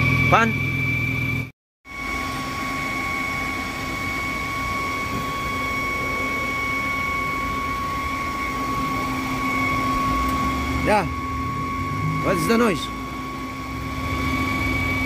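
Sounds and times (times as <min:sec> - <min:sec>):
high whistle under hood: 0:00.0 - 0:15.0.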